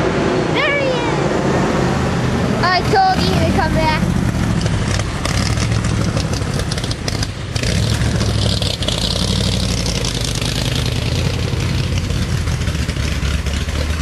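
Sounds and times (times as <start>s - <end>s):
car engine idling: 1.8s - 14.0s.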